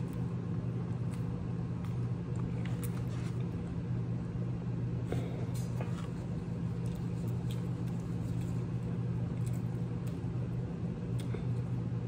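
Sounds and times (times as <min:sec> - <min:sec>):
chewing food: 0:00.0 - 0:03.7, 0:05.1 - 0:11.8
steady low hum: 0:00.0 - 0:12.0.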